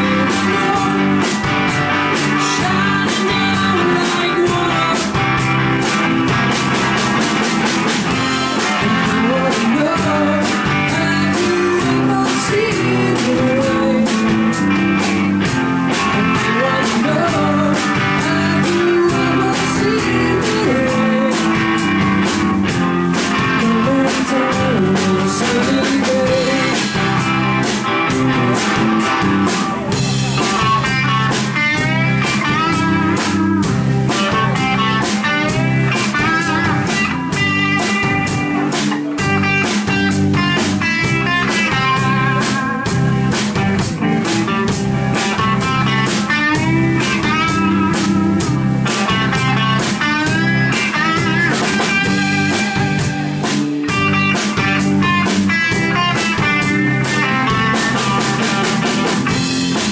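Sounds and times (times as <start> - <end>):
lead guitar solo with bent notes: 0.0 - 59.9
rock band playing: 0.0 - 59.9.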